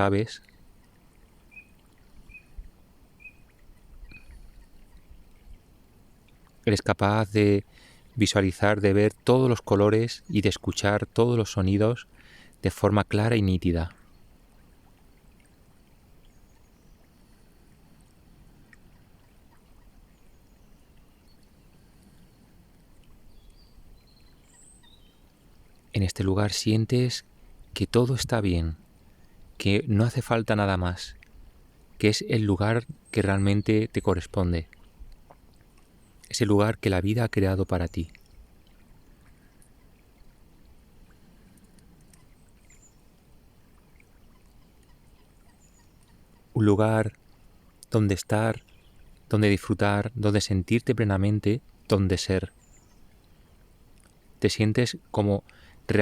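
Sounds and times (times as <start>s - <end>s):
river flowing: 0.0s - 27.8s, 28.4s - 49.8s.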